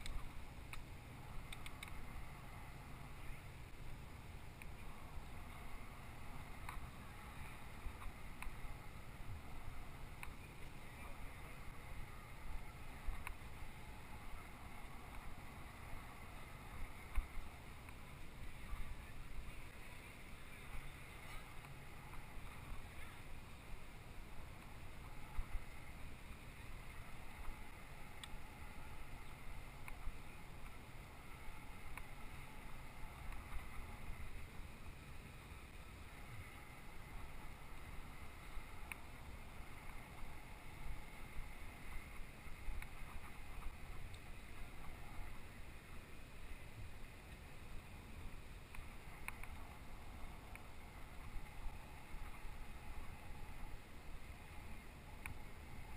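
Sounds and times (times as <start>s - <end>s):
faint clicks: 0.0s - 2.3s, 4.5s - 5.8s, 6.4s - 8.9s, 9.5s - 23.3s, 24.5s - 55.9s
bicycle rolling on pavement: 0.0s - 55.9s.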